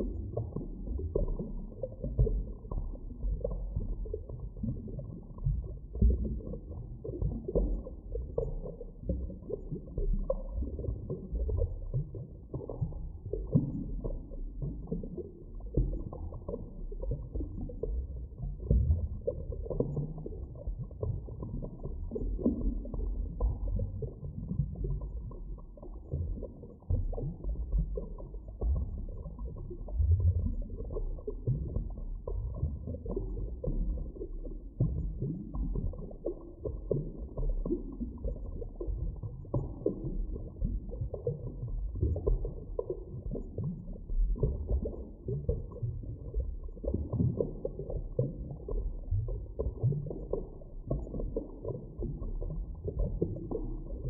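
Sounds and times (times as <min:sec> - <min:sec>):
muffled underwater rumbling: 0:00.0 - 0:54.0.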